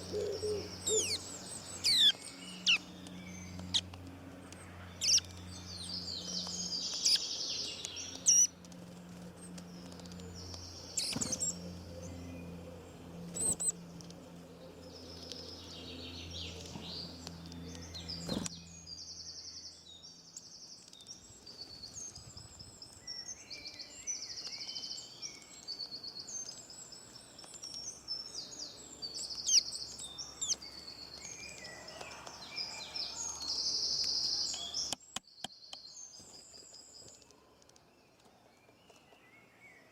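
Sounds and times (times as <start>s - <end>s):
low steady hum: 0.0s - 34.9s
songbirds chirping and singing: 0.0s - 39.9s.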